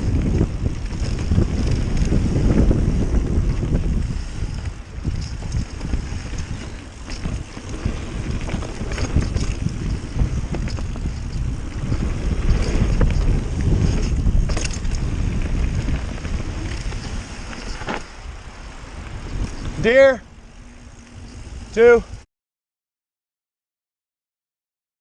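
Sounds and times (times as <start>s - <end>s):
bike clicks and rattles: 0.0s - 21.6s
wind rushing over microphone: 0.0s - 22.2s.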